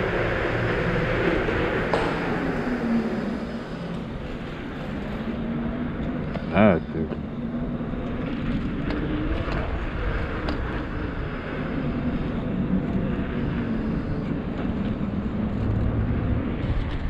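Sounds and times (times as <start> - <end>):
bike road noise: 0.0 - 17.0
wind rush on microphone: 0.0 - 17.0.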